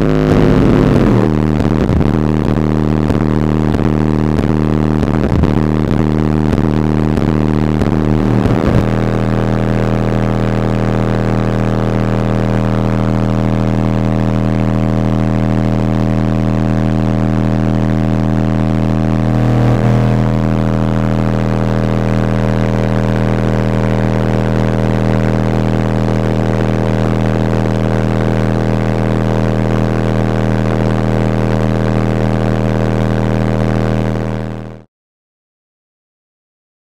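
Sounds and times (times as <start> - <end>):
subwoofer playing loud bass: 0.0 - 34.9.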